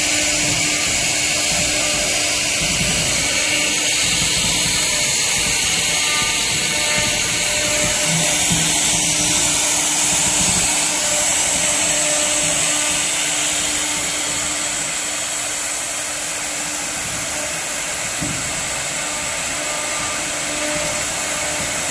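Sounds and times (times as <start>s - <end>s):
cnc router spindles whining: 0.0s - 21.9s.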